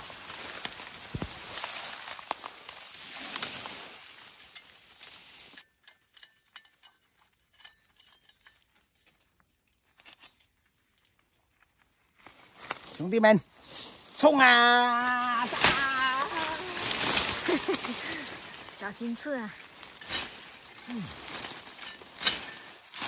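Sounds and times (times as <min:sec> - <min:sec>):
undergrowth rustling and crackling: 0:00.0 - 0:23.0.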